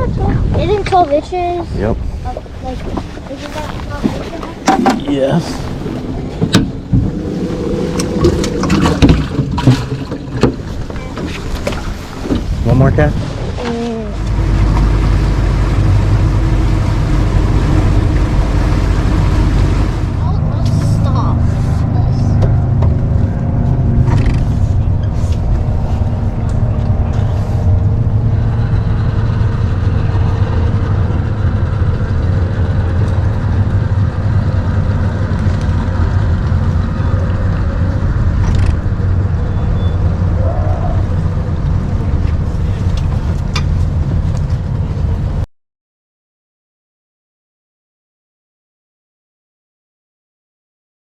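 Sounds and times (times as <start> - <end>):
outboard motor rumbling: 0.0 - 45.4
water noise: 0.0 - 45.4
wind: 0.0 - 45.5.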